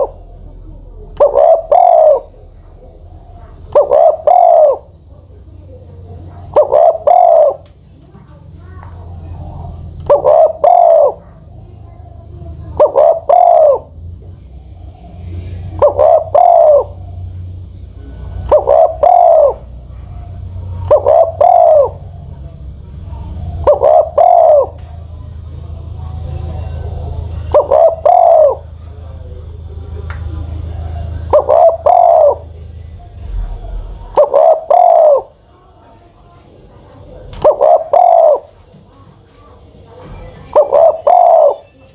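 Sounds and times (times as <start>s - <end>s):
dove cooing: 0.0s - 35.7s, 36.7s - 41.9s
steady low hum: 0.0s - 41.9s.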